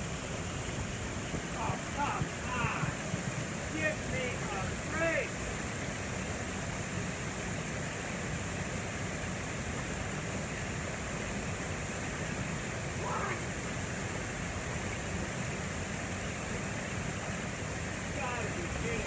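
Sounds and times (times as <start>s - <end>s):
brook running over stones: 0.0s - 19.0s.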